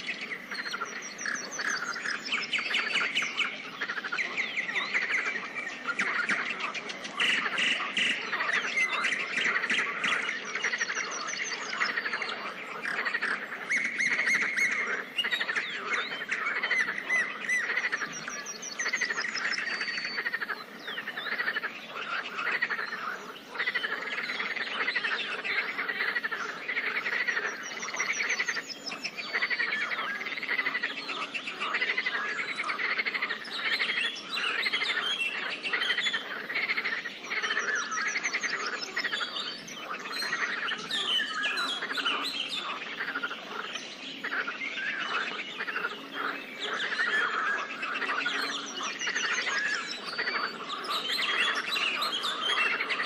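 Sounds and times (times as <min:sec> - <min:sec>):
birds calling: 0:00.0 - 0:53.0
frogs calling: 0:00.0 - 0:53.0.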